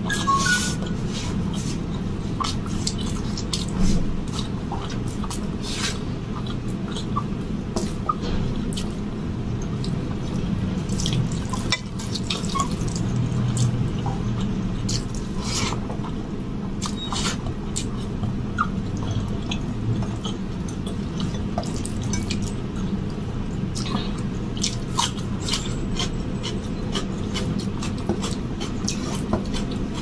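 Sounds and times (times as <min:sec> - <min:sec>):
steady low hum: 0:00.0 - 0:30.0
chewing: 0:00.2 - 0:09.0, 0:09.6 - 0:16.2, 0:16.8 - 0:30.0.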